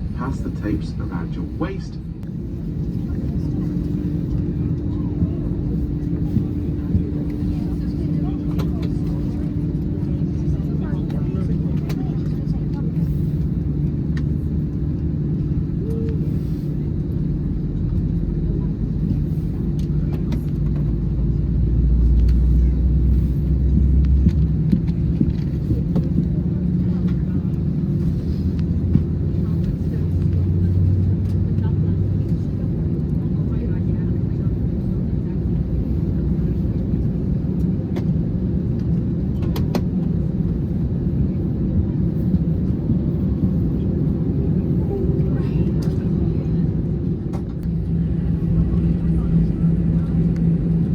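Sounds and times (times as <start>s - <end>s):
airplane cabin low rumble: 0.0s - 50.9s.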